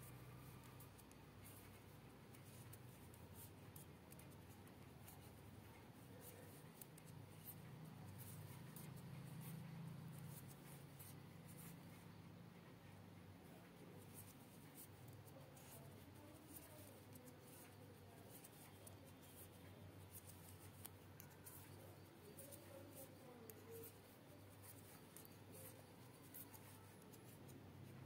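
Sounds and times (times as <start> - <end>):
knitting needles clicking: 0.0 - 12.0, 13.8 - 28.0.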